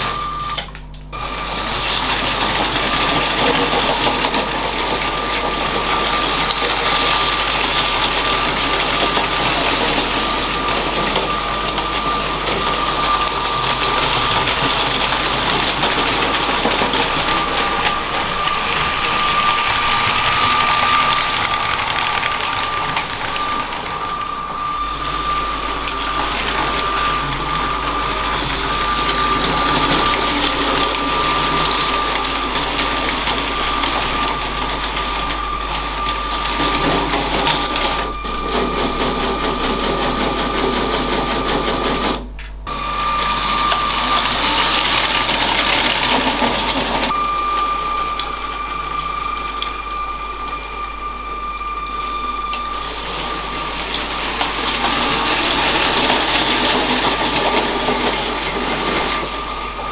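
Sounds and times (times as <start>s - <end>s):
toy train motor whining: 0.0s - 59.9s
wheels rattling on plastic track: 0.0s - 59.9s.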